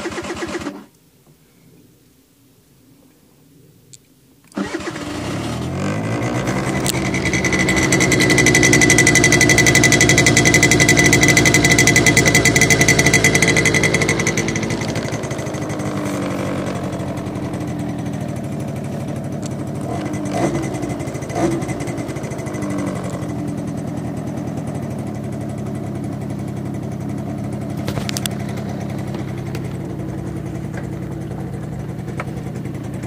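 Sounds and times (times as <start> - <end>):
scooter engine starting and idling: 0.0 - 0.9, 4.5 - 33.0.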